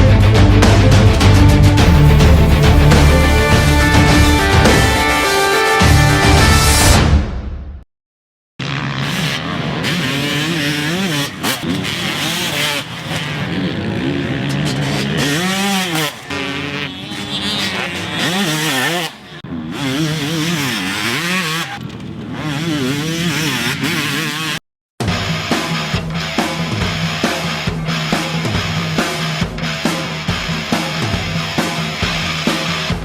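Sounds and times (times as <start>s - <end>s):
two-stroke engine revving: 1.8s - 5.1s, 8.6s - 33.0s.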